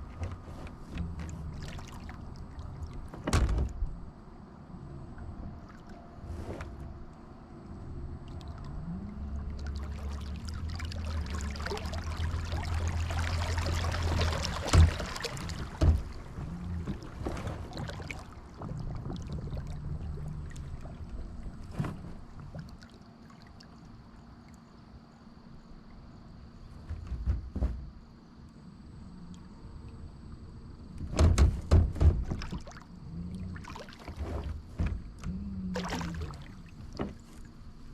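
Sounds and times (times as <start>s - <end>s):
water rushing past hull: 0.0s - 4.0s, 8.1s - 27.2s, 29.5s - 37.9s.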